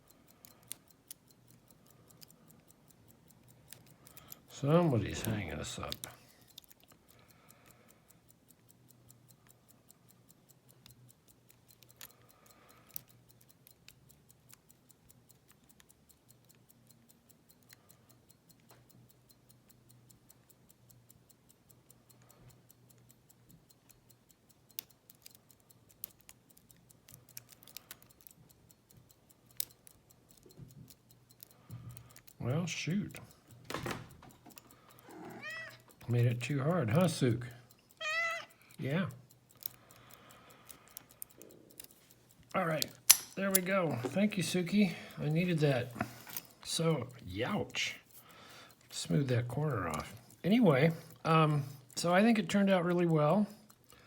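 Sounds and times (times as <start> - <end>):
lock pick ticks and clicks: 0.0 - 54.0.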